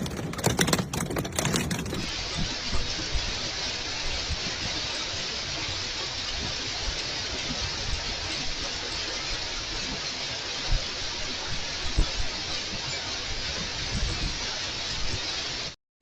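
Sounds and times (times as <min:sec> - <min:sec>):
heavy rain pouring: 0:00.0 - 0:15.8.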